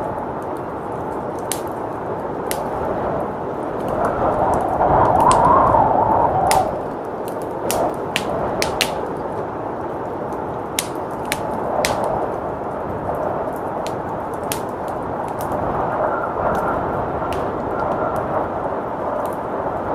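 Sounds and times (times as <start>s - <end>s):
blizzard wind rushing: 0.0s - 19.9s
wood fire crackling: 0.0s - 19.9s.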